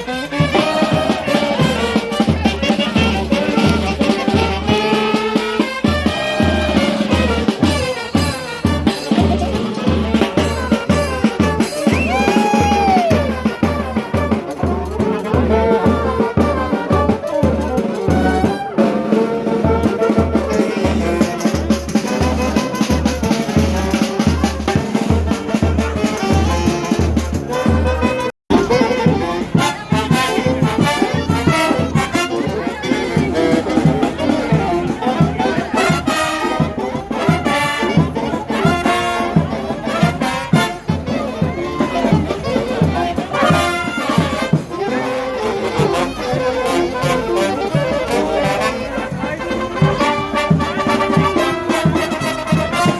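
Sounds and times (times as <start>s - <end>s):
bass drum beat: 0.0s - 44.8s
brass band playing carnival music: 0.0s - 52.9s.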